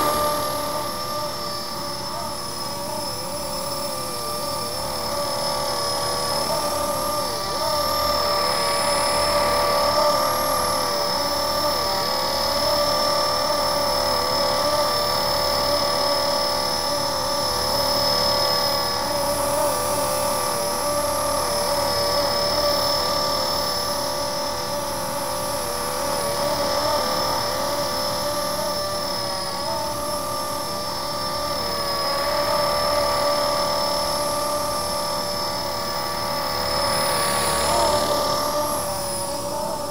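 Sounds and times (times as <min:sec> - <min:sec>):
rc helicopter motor whine: 0:00.0 - 0:39.9
rotor noise: 0:00.0 - 0:39.9.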